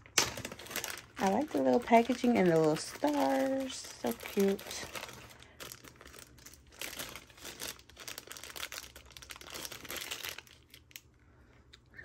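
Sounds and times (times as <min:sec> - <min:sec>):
packaging crinkling: 0:00.0 - 0:11.2.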